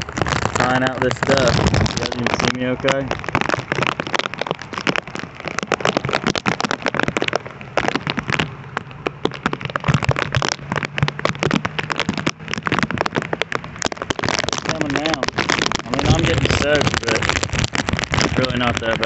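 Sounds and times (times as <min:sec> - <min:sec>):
hiss of rain: 0:00.0 - 0:19.0
rain tapping on plastic: 0:00.0 - 0:19.0.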